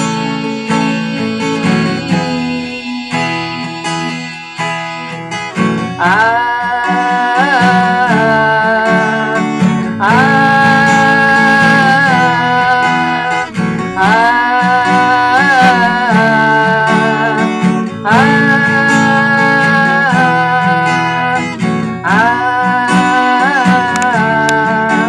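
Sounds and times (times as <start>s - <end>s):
acoustic guitar strumming: 0.0s - 25.0s
person singing wordless line: 0.0s - 25.0s.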